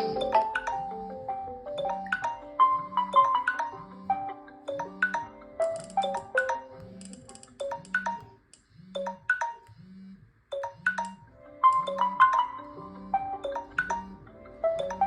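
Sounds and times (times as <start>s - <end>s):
phone alarm melody: 0.0s - 15.0s.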